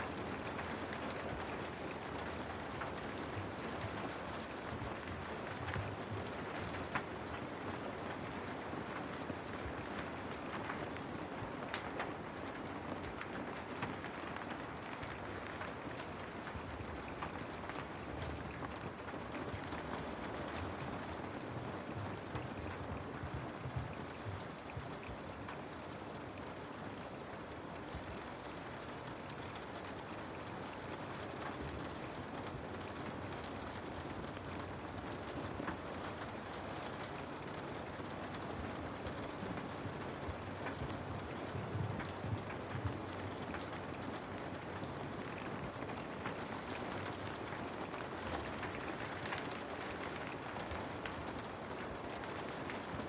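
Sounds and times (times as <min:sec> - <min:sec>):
rain on a window: 0:00.0 - 0:53.0.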